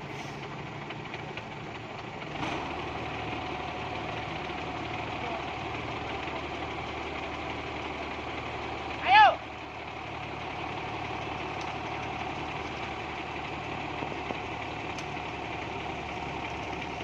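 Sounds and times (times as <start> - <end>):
truck engine running at low revs: 0.0 - 17.0.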